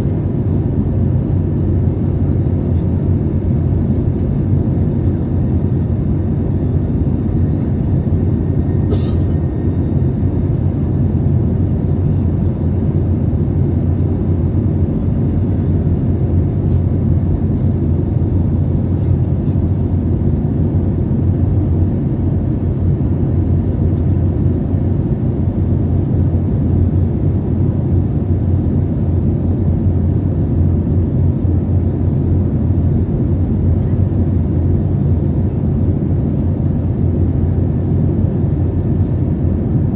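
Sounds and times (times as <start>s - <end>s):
airliner cabin engine noise: 0.0s - 39.9s.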